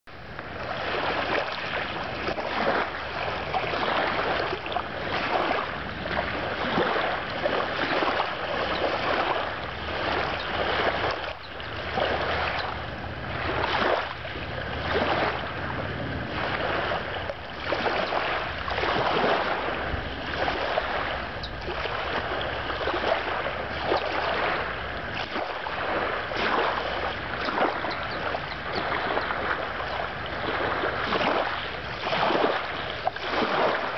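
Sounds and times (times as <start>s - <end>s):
waves lapping over pebbles: 0.1s - 33.9s.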